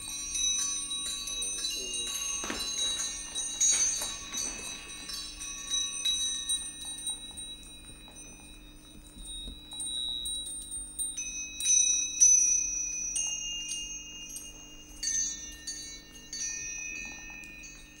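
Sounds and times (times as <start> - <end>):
high metallic chimes ringing: 0.0 - 18.0.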